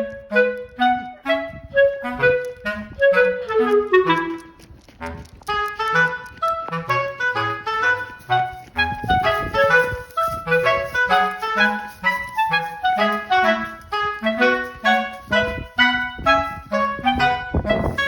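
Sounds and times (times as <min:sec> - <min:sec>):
upbeat instrumental music: 0:00.0 - 0:04.5, 0:05.7 - 0:18.0.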